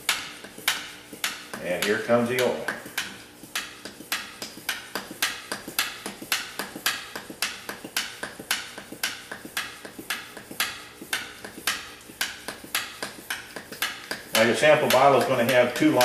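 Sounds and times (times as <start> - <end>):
hand vacuum pump clicking: 0.0 - 16.0.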